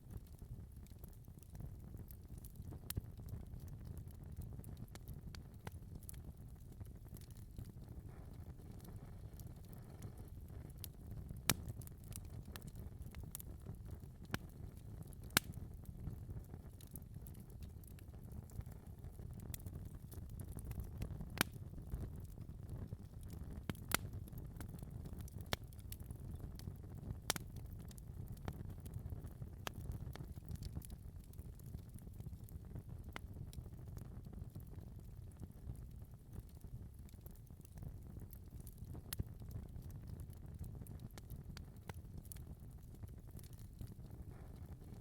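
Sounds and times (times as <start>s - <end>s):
fire pops and snaps: 0.1s - 45.0s
wood fire crackling: 0.1s - 45.0s.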